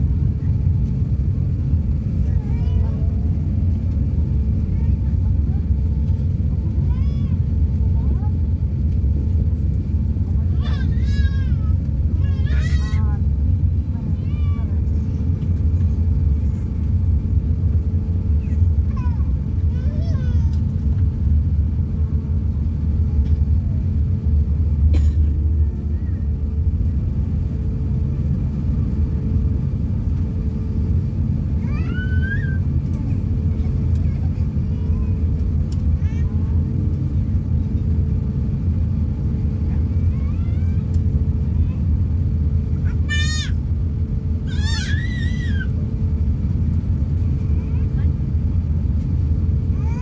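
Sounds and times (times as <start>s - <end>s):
engine and wheels rumble: 0.0s - 50.0s.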